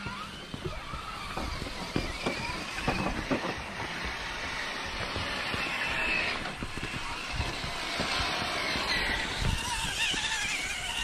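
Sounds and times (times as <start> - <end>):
toy car drivetrain hum: 0.0 - 11.0
tyres crunching over dirt and stones: 0.0 - 11.0.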